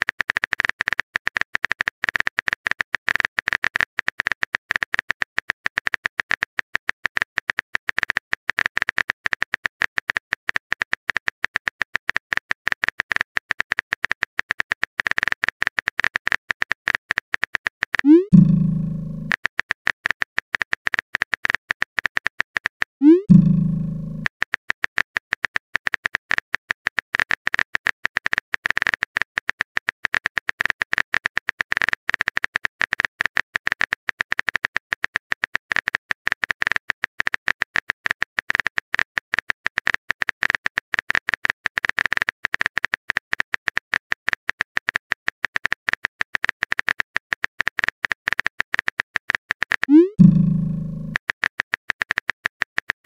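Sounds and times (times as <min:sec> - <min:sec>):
rapid keyboard clicks: 0:00.0 - 0:53.0.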